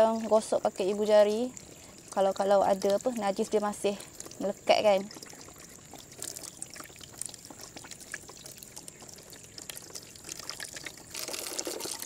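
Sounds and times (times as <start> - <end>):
water trickling over hands: 0.0 - 12.0.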